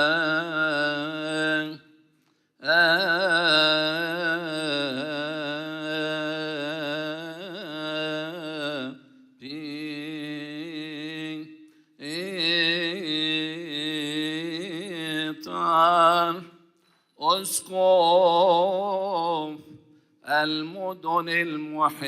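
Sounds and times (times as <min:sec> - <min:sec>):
man chanting: 0:00.0 - 0:01.8, 0:02.6 - 0:16.6, 0:17.2 - 0:22.0.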